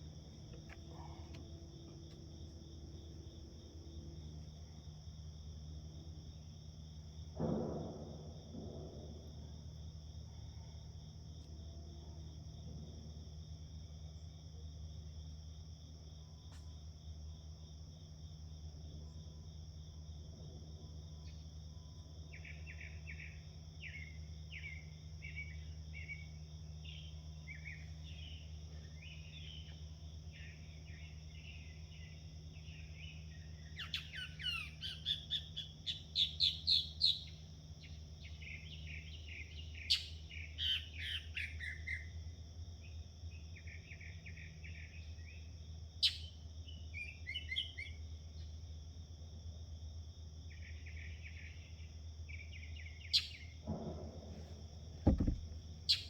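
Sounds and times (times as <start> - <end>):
low steady hum: 0.0 - 47.1, 49.6 - 56.0
crickets trilling: 0.0 - 56.0.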